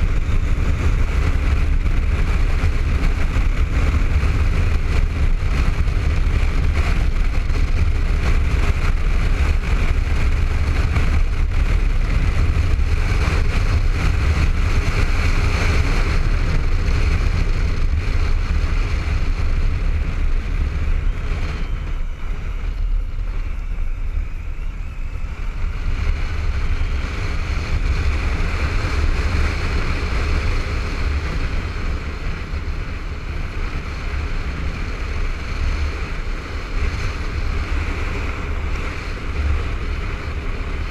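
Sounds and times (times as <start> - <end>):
motorcycle low rumble: 0.0 - 40.9
wind rushing over helmet: 0.0 - 40.9.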